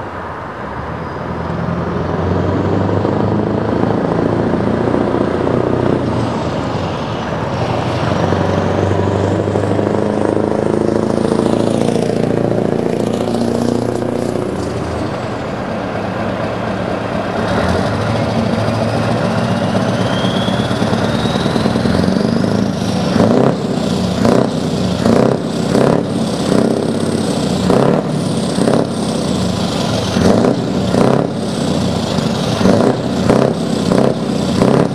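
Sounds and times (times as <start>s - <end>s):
engine whine: 0.0s - 34.9s
truck diesel engine running: 0.0s - 34.9s.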